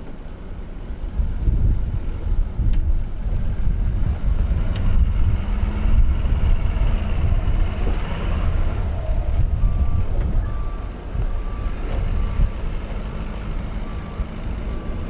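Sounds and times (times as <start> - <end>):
heavy wind buffeting microphone: 0.4 - 15.0.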